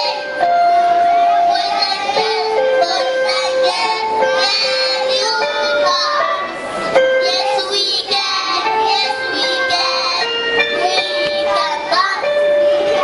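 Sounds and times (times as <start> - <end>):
children singing: 0.0 - 13.0
instrumental backing: 0.0 - 13.0.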